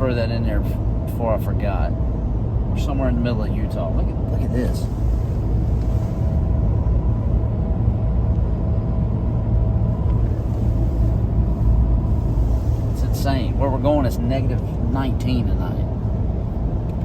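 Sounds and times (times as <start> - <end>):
faint steady hum: 0.0 - 17.0
vehicle road rumble: 0.0 - 17.0.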